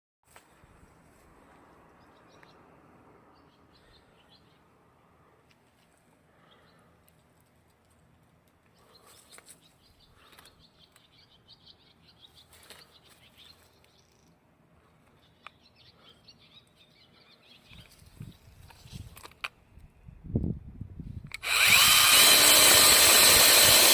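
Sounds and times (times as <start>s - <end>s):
faint birds chirping: 0.5s - 20.4s.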